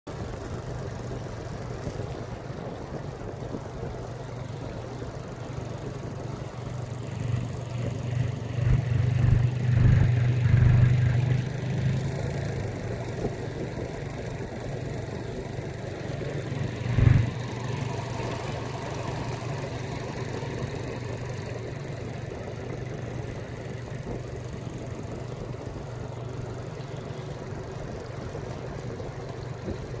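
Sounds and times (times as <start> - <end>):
outboard motor droning: 0.1 - 30.0.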